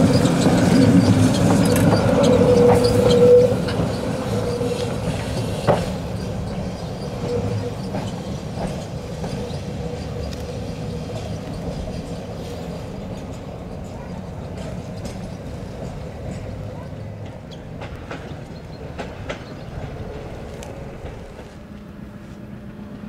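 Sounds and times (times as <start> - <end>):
tram running noise: 0.0 - 23.0
tram wheels squealing: 0.0 - 23.0.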